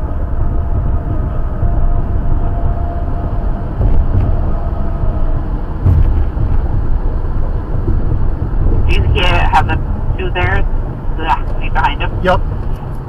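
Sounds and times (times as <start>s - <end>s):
road and traffic rumble inside car: 0.0s - 13.0s.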